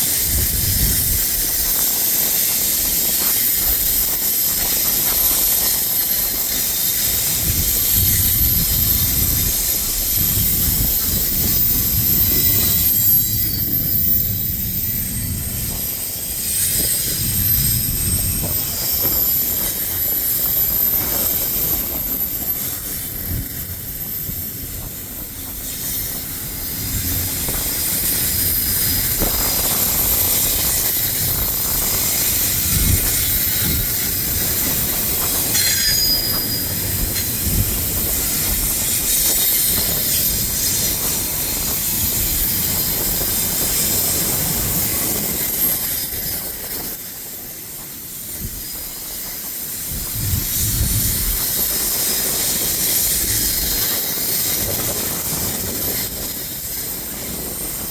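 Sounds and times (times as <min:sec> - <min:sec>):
high-pitched wheel squeal: 0:00.0 - 0:57.9
train wheels rumbling on rails: 0:00.0 - 0:57.9.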